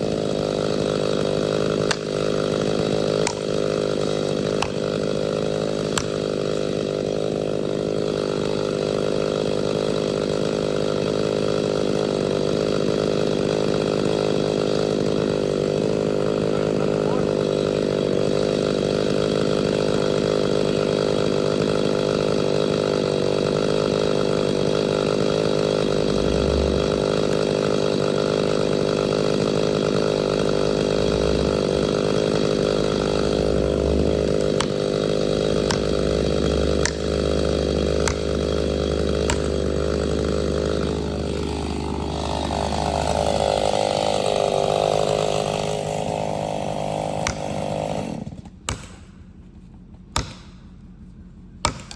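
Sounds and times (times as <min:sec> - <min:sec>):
chainsaw running at high revs: 0:00.0 - 0:49.1.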